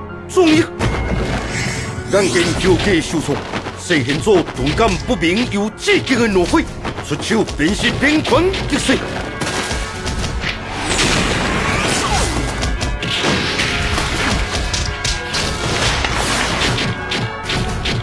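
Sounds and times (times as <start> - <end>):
dramatic battle music: 0.0 - 18.0.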